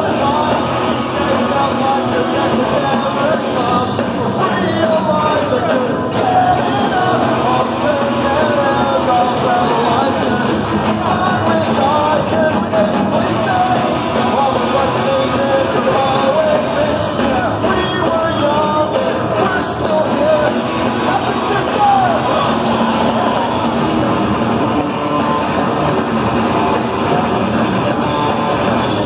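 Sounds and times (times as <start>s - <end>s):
punk rock band playing live: 0.0s - 29.0s.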